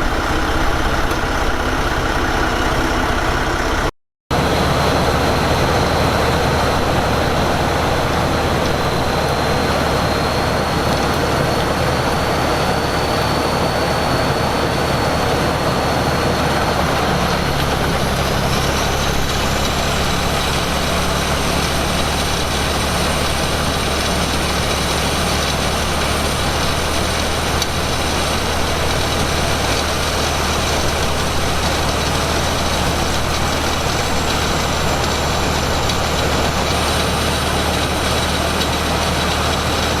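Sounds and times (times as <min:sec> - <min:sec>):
diesel engine running: 0:00.0 - 0:40.0
high whine: 0:00.0 - 0:40.0
rising whine: 0:00.0 - 0:40.0.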